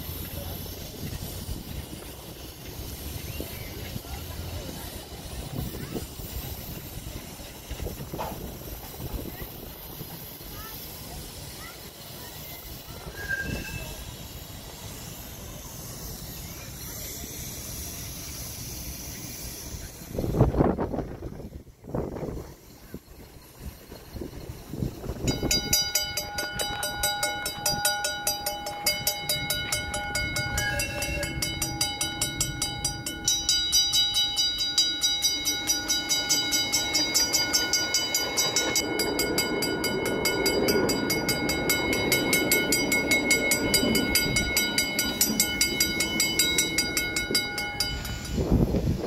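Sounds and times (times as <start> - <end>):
rail vehicle high tones: 0.0 - 49.0.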